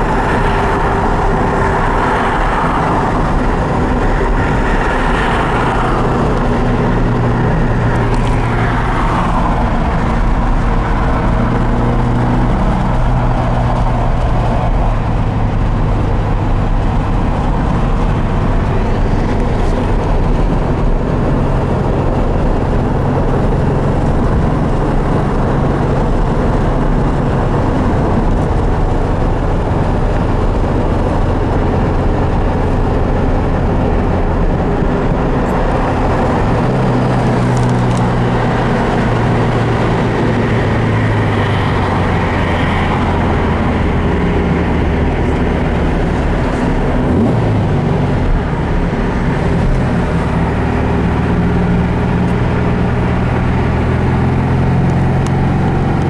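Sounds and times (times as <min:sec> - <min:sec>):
car engine running: 0:00.0 - 0:56.0
road and wind noise: 0:00.0 - 0:56.0.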